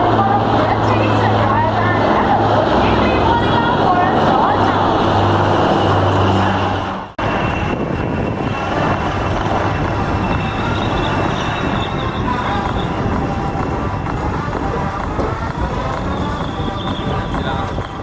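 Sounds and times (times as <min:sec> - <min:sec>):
helicopter rotor and turbine: 0:00.0 - 0:18.0.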